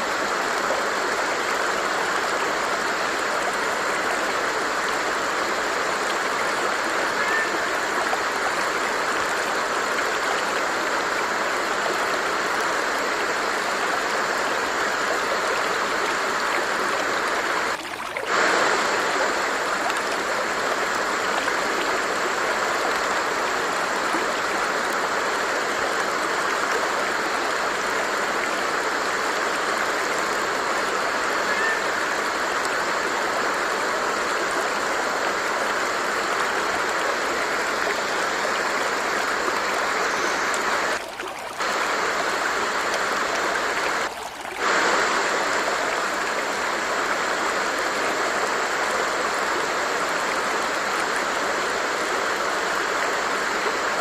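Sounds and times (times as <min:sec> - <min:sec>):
stream of water flowing: 0:00.0 - 0:54.0.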